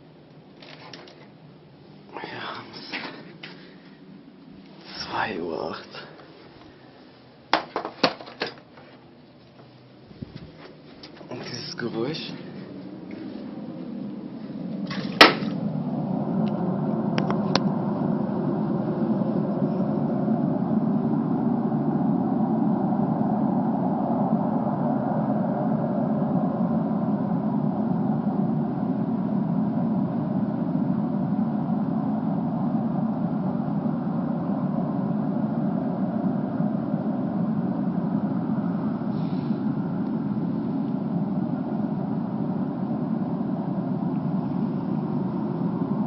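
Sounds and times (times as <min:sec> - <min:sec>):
rumbling drone from the sky: 0:00.0 - 0:46.0.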